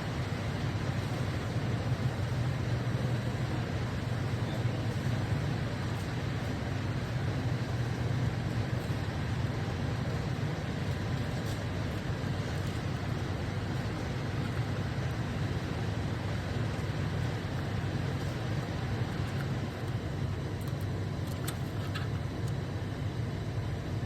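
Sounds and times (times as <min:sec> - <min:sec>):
low hum with hiss: 0:00.0 - 0:24.0.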